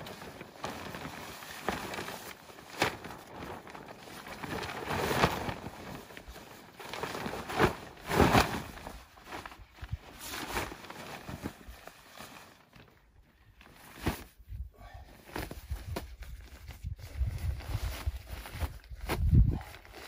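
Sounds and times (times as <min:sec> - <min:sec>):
awning sheet rustling and flapping: 0:00.0 - 0:14.5, 0:15.2 - 0:20.0.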